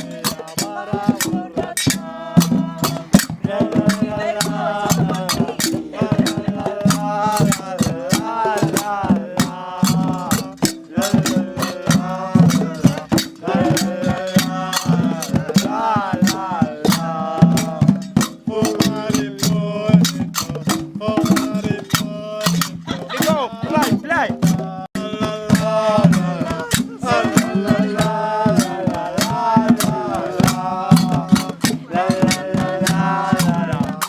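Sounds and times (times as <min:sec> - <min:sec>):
quick percussion strikes: 0:00.0 - 0:34.0
voices singing a melody: 0:00.0 - 0:34.0.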